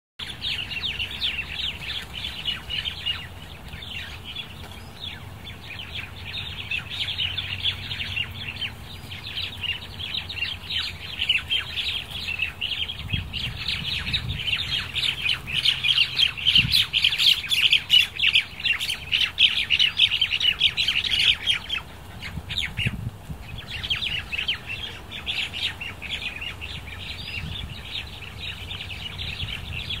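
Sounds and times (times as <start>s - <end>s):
flock of birds chattering: 0.2s - 30.0s.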